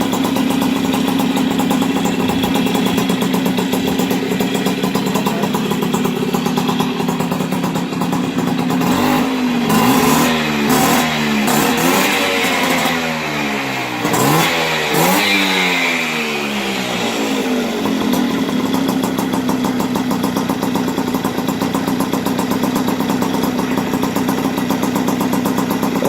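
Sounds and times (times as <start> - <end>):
moped engine revving and idling: 0.0 - 26.0.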